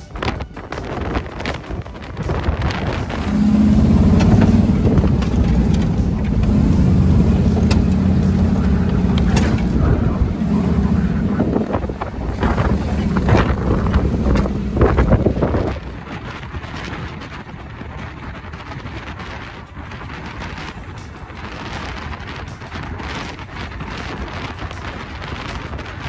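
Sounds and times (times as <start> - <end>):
wind buffeting microphone: 0.0 - 26.0
car engine running: 2.5 - 25.8.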